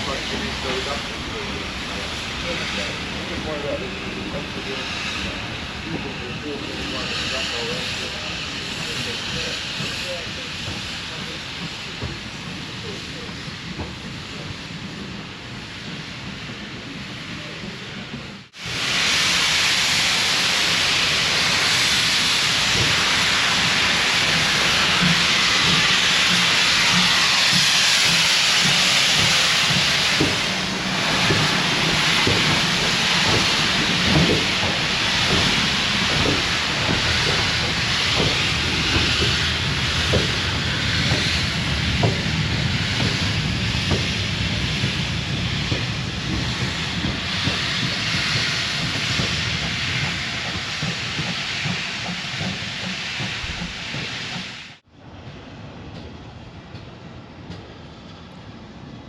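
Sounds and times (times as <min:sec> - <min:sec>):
steam locomotive hissing: 0:00.0 - 0:54.8.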